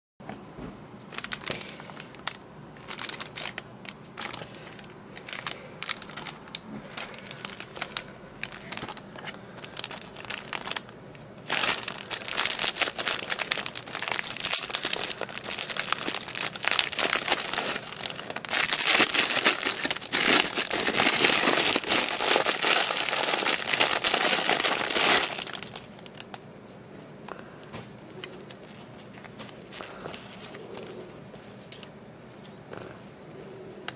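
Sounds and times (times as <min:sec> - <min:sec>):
cellophane wrapping crinkling: 0:01.1 - 0:26.4, 0:28.3 - 0:31.9.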